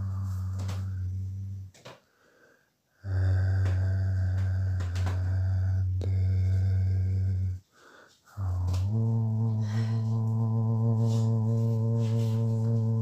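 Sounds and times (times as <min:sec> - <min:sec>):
low voice humming: 0:00.0 - 0:01.8, 0:03.0 - 0:07.6, 0:08.3 - 0:13.0.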